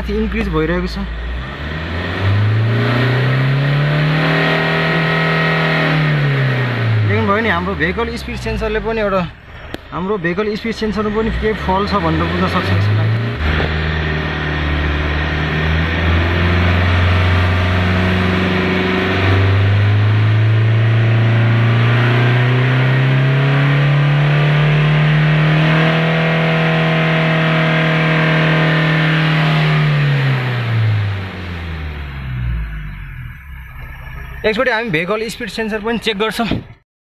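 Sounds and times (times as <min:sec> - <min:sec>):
diesel engine revving: 0:00.0 - 0:36.8.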